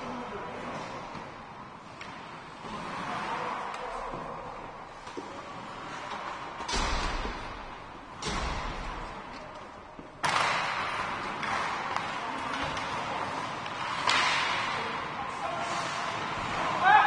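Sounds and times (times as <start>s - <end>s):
echoing slams against rink boards: 1.9s - 17.0s.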